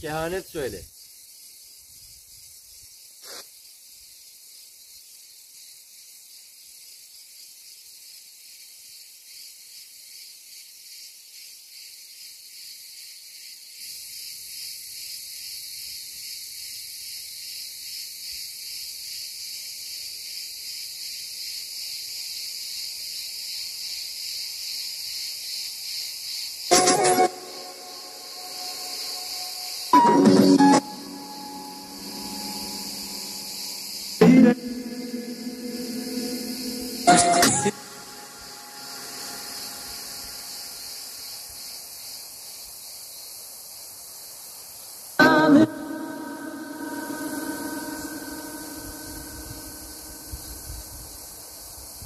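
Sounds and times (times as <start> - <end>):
insects buzzing: 0.0 - 52.0.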